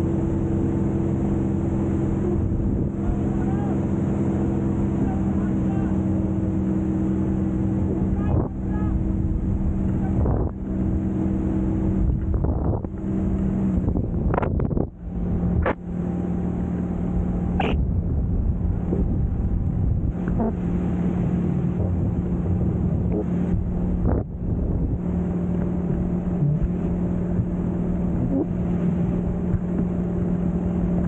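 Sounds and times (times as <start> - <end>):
steady low hum: 0.0 - 31.0
wind buffeting microphone: 6.0 - 31.0.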